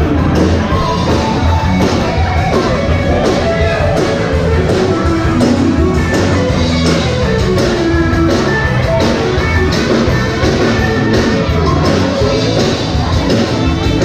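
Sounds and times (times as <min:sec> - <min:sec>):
drum kit beat: 0:00.0 - 0:14.0
electric guitar: 0:00.0 - 0:14.0.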